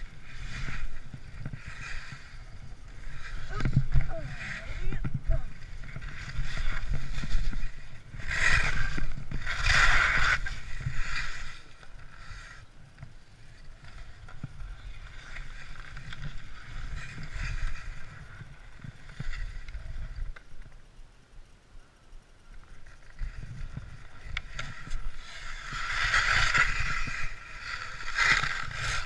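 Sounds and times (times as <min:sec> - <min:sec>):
skis scraping on icy snow: 0:00.0 - 0:20.7, 0:22.7 - 0:29.0
wind rumbling on microphone: 0:00.0 - 0:20.9, 0:22.4 - 0:29.0.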